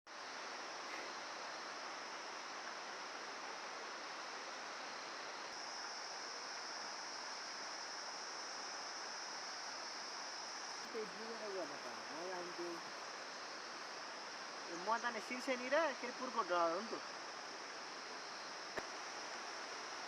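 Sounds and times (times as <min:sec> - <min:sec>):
even hiss: 0:00.1 - 0:20.0.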